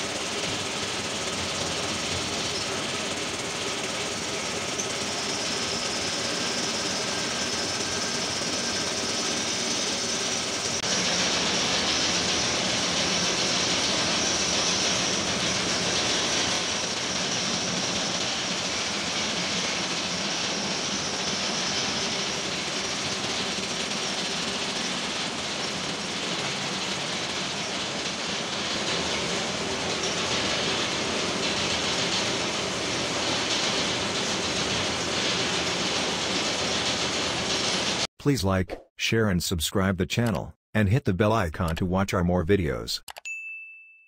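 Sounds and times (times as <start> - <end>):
machine running hiss and hum: 0.0 - 38.1.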